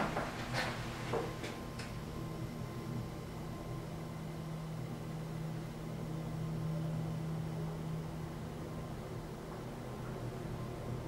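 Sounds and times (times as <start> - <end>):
elevator low hum: 0.0 - 11.0.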